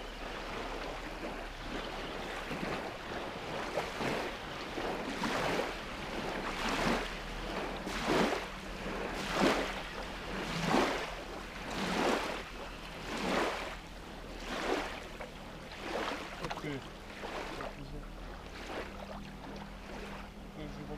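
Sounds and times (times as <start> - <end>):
small waves lapping on sand: 0.0 - 20.9.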